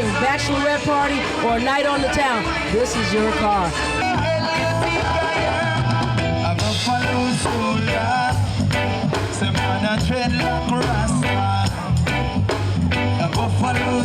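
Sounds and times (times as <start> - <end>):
upbeat ska reggae music: 0.0 - 14.0.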